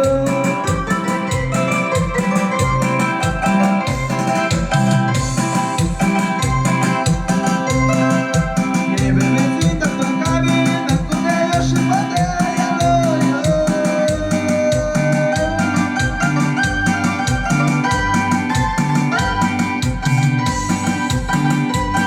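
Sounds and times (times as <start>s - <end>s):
electronic keyboard melody: 0.0s - 22.0s
steady bass beat: 0.0s - 22.0s.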